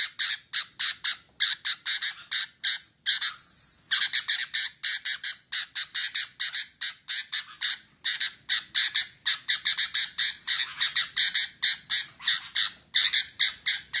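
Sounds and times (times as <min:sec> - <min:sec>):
bird harsh chattering calls: 0:00.0 - 0:14.0.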